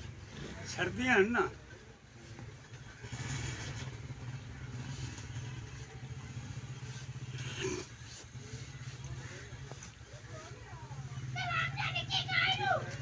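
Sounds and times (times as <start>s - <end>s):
engine chugging: 0.0s - 13.0s.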